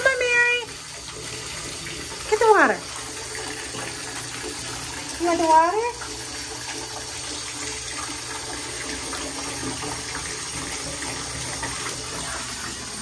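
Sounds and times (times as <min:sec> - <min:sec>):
bathtub faucet running: 0:00.0 - 0:13.0.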